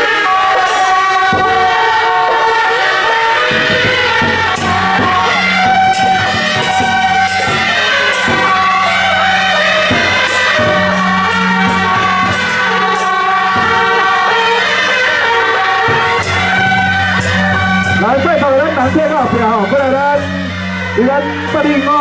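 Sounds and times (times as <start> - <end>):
loud melodic music over drone: 0.0 - 22.0
sharp percussive strikes: 0.0 - 22.0.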